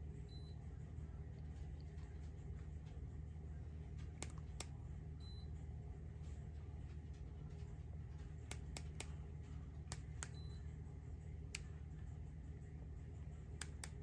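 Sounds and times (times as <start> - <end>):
ceiling fan humming: 0.0 - 14.0.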